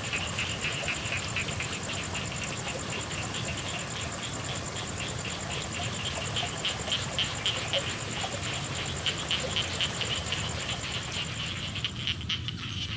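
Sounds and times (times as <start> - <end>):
frogs calling: 0.0 - 12.9
steady rain hiss: 0.0 - 12.9.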